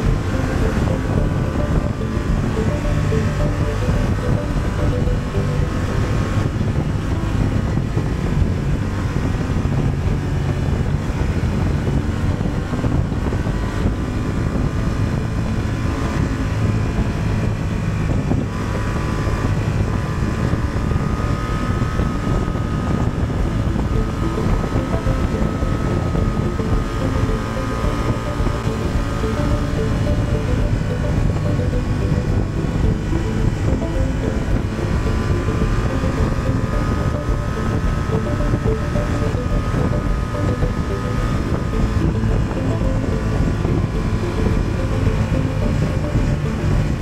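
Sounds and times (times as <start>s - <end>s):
motorcycle engine running: 0.0s - 47.0s
wind buffeting microphone: 0.0s - 47.0s.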